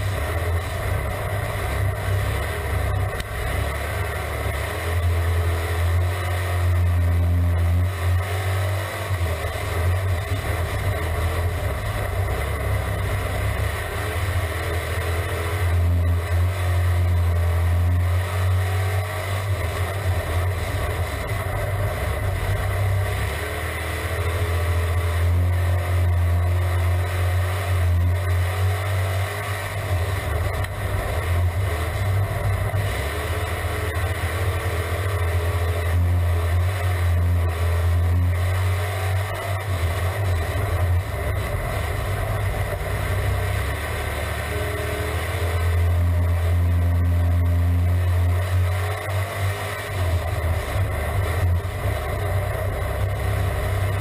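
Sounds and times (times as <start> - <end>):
race car engine at speed: 0.0 - 54.0.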